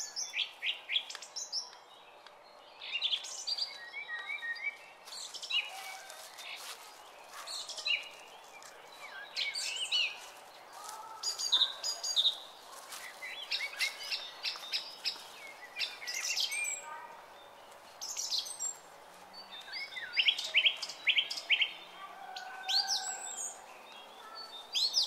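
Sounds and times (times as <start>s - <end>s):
faint outdoor background: 0.0s - 25.0s
small songbirds chirping: 0.0s - 25.0s.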